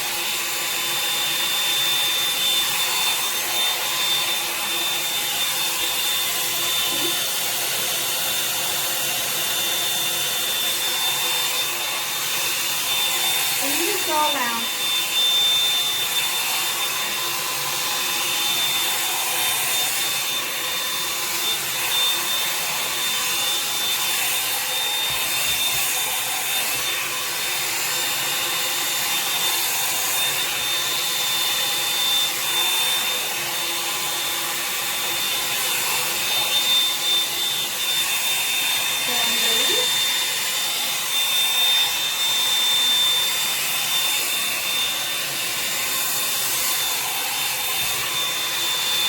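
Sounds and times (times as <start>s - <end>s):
hair dryer brush whining: 0.0s - 49.0s.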